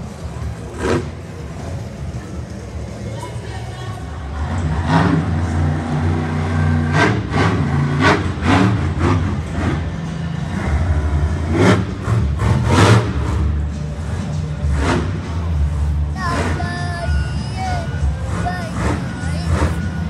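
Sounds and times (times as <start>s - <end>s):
truck engine revving: 0.0s - 2.2s, 4.2s - 20.0s.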